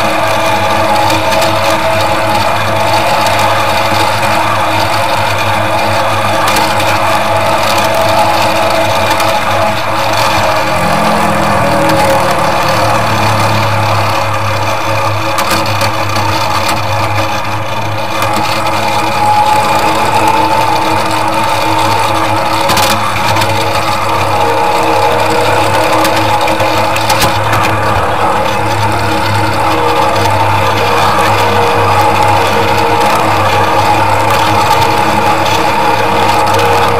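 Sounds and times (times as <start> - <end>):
miniature train running: 0.0 - 36.9.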